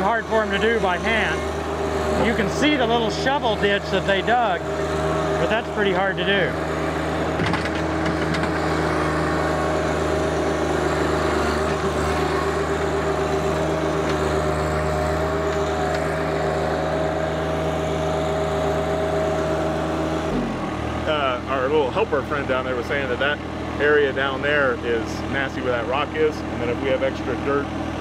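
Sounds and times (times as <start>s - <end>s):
front loader pushing dirt: 0.0s - 28.0s
tractor diesel engine running: 0.0s - 28.0s.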